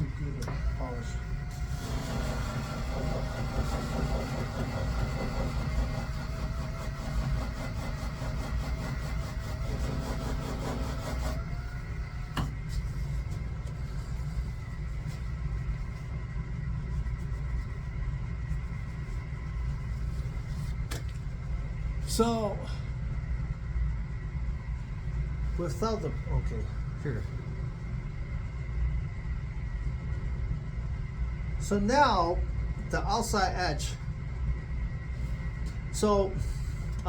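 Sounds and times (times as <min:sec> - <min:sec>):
motor hum: 0:00.0 - 0:33.4.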